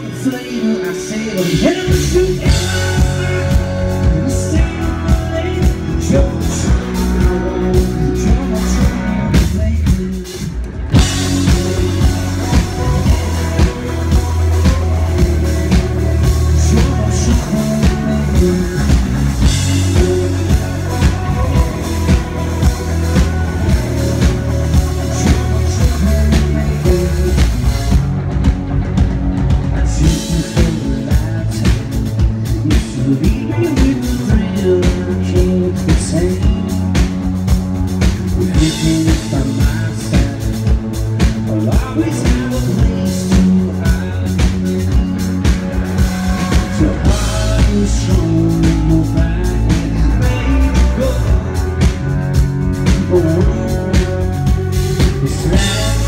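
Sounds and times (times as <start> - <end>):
bass guitar: 0.0 - 56.0
drum kit beat: 0.0 - 56.0
electric guitar: 0.0 - 56.0.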